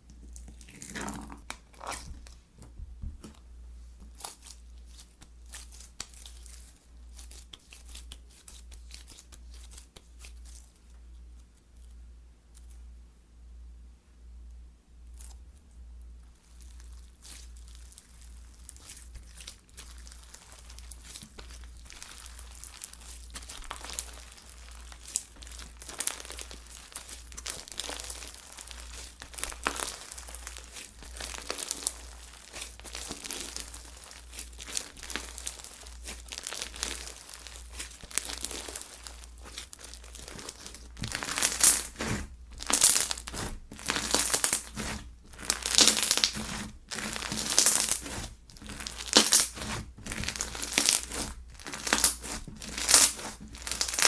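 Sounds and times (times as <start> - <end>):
slime crackling as squeezed: 0.2 - 2.4, 4.1 - 10.7, 16.3 - 54.0.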